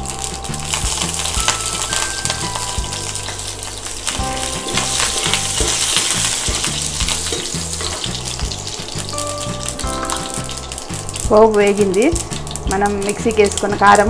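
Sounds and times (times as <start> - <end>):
background music with bass: 0.0 - 14.0
tempering sizzling in hot oil: 0.0 - 14.0
spatula stirring in pan: 1.1 - 12.7.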